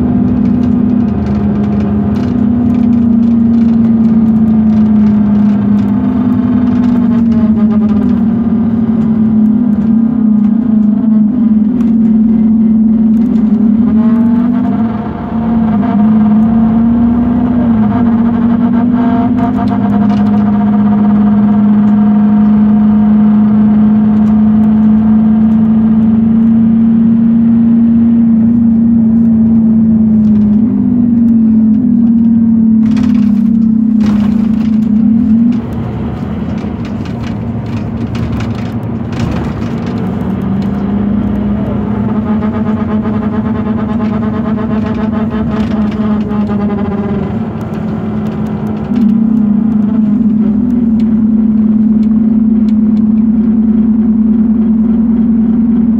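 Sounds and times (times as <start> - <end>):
bus droning hum: 0.0 - 55.9
engine and drivetrain tones sliding: 0.0 - 55.9.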